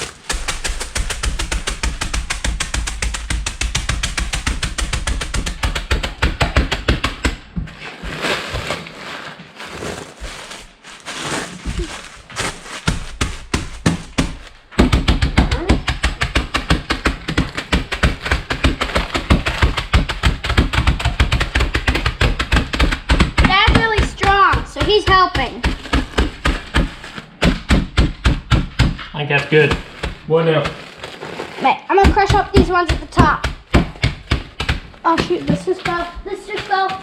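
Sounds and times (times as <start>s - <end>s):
rustling: 0.0s - 14.8s, 15.7s - 27.7s, 29.0s - 37.0s.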